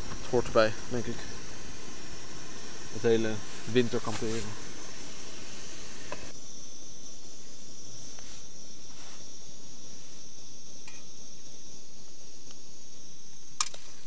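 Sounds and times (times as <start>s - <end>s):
gas stove hissing: 0.0s - 14.0s.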